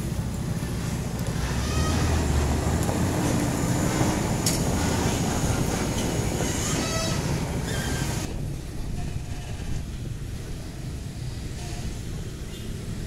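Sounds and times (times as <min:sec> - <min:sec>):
trailer rattling and rolling: 0:00.0 - 0:13.0
truck diesel engine rumbling: 0:00.0 - 0:13.0.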